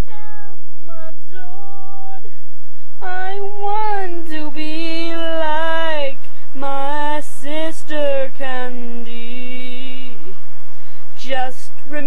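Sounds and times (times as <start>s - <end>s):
girl singing: 0.0s - 2.4s, 3.0s - 10.3s, 11.2s - 12.0s.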